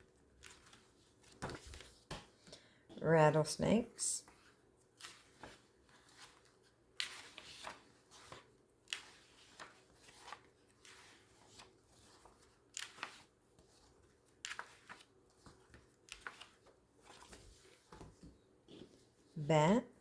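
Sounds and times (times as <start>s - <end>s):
magazine pages rustling: 0.0s - 2.7s, 4.2s - 19.4s.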